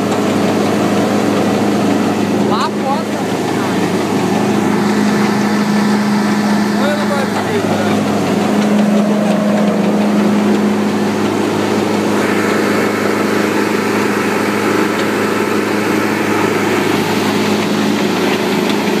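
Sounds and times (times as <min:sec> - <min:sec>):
wood chipper engine hum: 0:00.0 - 0:19.0.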